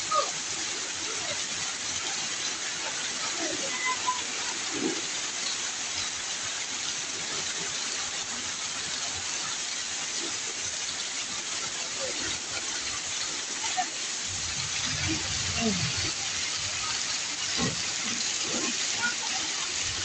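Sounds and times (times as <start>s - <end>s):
rainwater pouring off roof: 0.0s - 20.0s.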